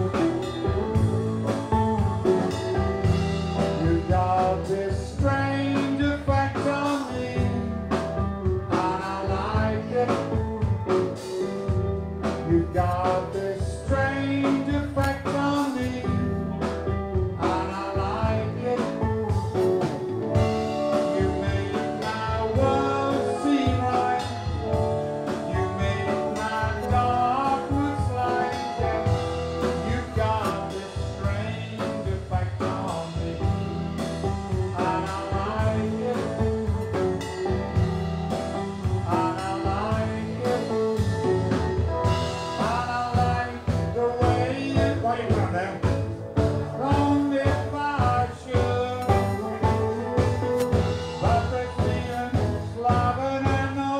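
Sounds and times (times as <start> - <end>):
man singing: 0.0 - 53.9
rock band playing: 0.0 - 53.9.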